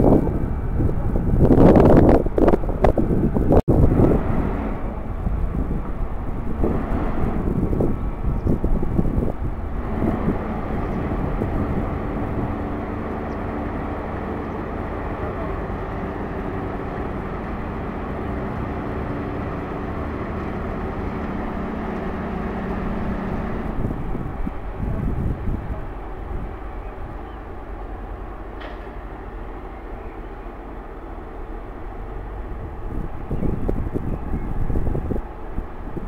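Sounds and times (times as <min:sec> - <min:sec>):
ship diesel engine rumbling: 0:00.0 - 0:36.0
wind buffeting microphone: 0:00.0 - 0:36.0.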